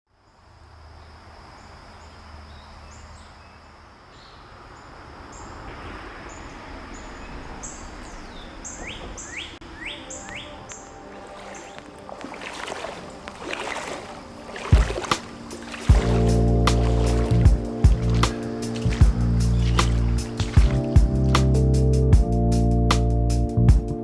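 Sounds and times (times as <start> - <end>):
steady outdoor hiss: 0.1 - 24.0
birds chirping: 1.6 - 22.4.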